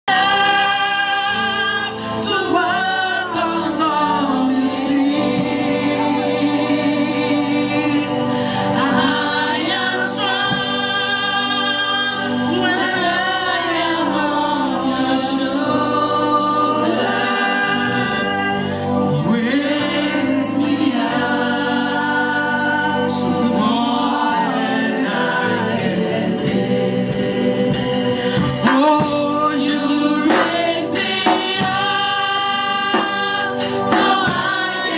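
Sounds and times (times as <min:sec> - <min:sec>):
gospel choir singing: 0:00.0 - 0:34.9
sustained backing music: 0:00.1 - 0:34.9.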